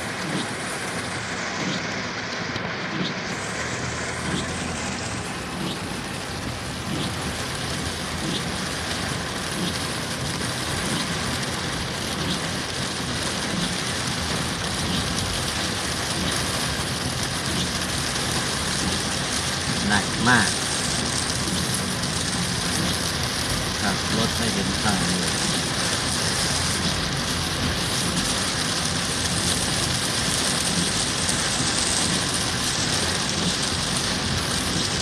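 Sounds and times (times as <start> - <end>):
heavy rain on a car: 0.0 - 35.0
road and engine noise: 0.0 - 35.0.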